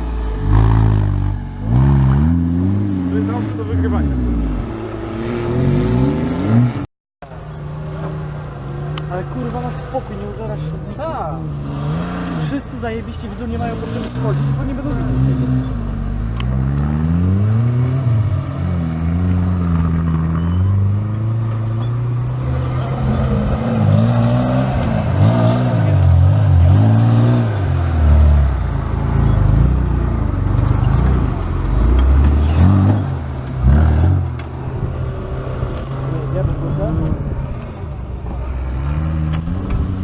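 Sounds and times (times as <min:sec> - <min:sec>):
engine revving: 0:00.0 - 0:40.0
tyre and chassis noise: 0:00.0 - 0:40.0.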